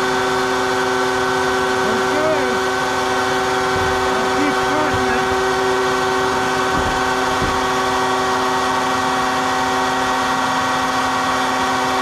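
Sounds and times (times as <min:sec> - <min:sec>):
power tool motor hum: 0:00.6 - 0:10.4.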